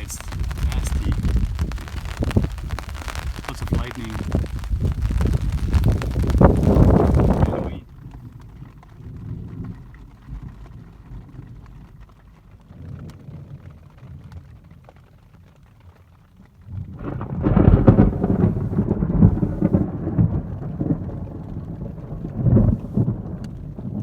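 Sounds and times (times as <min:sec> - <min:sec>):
thunder rumbling: 0:00.0 - 0:14.2, 0:16.7 - 0:24.0
rain falling: 0:00.0 - 0:24.0.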